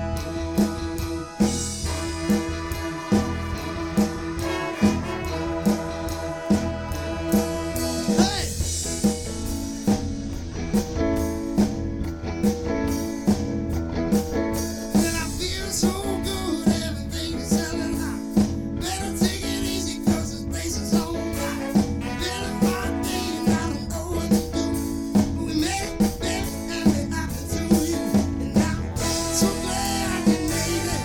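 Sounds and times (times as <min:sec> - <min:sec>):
drum kit beat: 0:00.0 - 0:31.0
guitar: 0:00.0 - 0:31.0.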